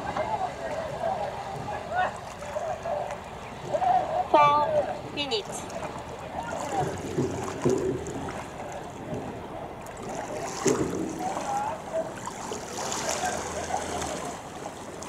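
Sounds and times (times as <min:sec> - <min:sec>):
faint indistinct voices: 0:00.0 - 0:15.0
oar swishes: 0:00.0 - 0:15.0
water rushing from hull and oars: 0:00.0 - 0:15.0.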